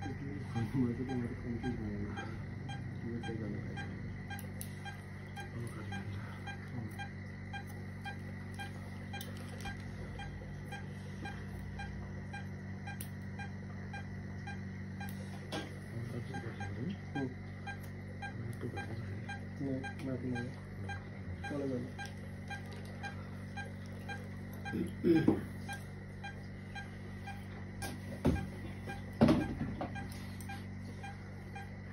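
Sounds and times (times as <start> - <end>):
low equipment hum: 0.0 - 31.9
patient monitor beeping: 0.0 - 31.9.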